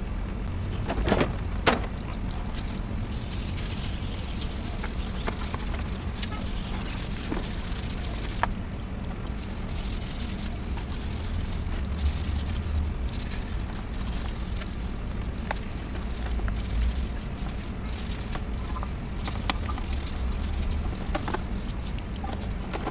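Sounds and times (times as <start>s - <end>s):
low rumble: 0.0s - 22.9s.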